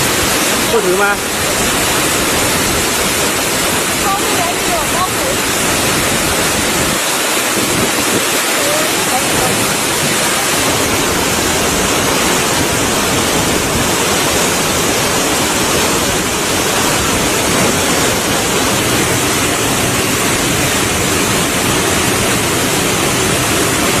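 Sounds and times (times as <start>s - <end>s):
waterfall rushing water: 0.0s - 24.0s.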